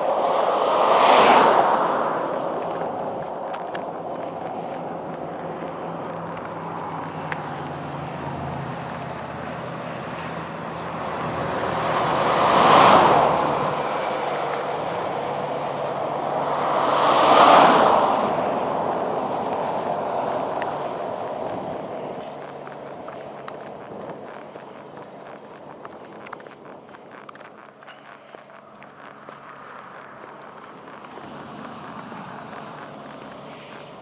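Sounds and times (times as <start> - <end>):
cars passing at speed: 0.0 - 34.0
steady traffic noise: 0.0 - 34.0.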